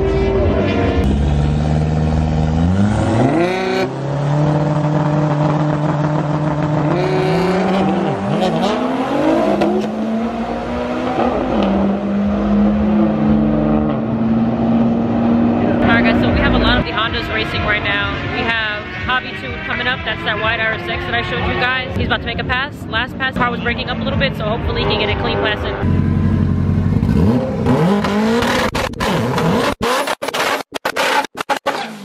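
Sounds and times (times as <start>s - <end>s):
drag car engine accelerating: 0.0s - 22.1s, 23.3s - 32.0s.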